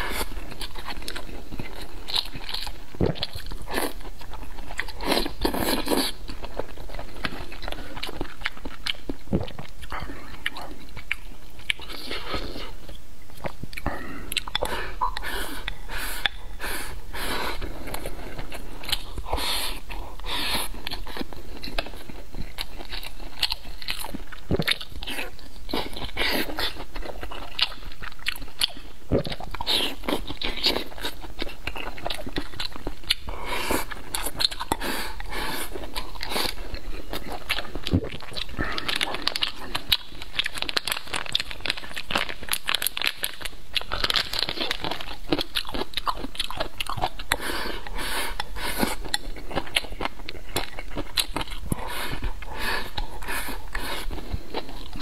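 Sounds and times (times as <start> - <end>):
close chewing and crunching: 0.0 - 55.0.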